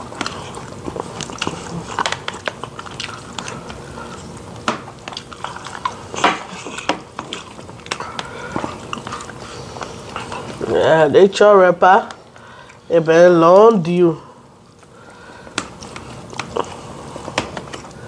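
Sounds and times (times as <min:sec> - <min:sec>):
close chewing and mouth sounds: 0:00.0 - 0:18.0.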